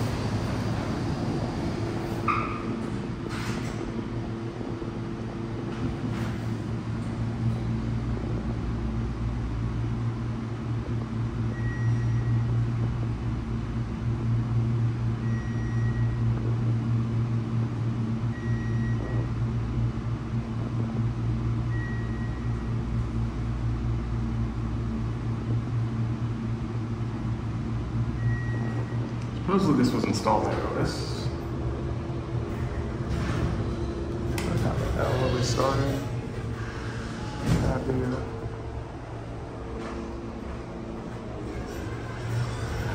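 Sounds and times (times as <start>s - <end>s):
elevator low hum: 0.0s - 42.9s.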